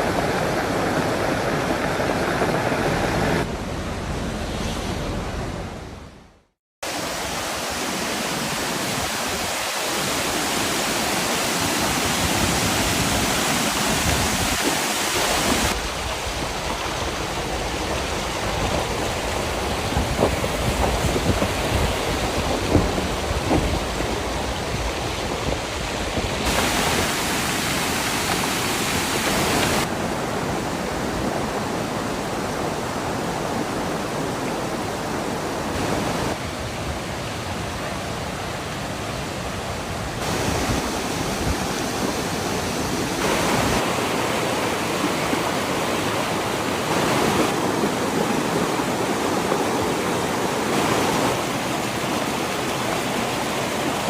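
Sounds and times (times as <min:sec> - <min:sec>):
rain and rushing water: 0:00.0 - 0:54.0.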